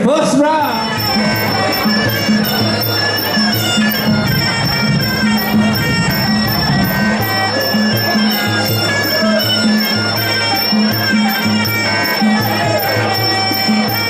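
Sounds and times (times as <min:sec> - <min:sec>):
steady drum beat: 0:00.2 - 0:14.0
reedy oboe wailing melody: 0:00.5 - 0:14.0.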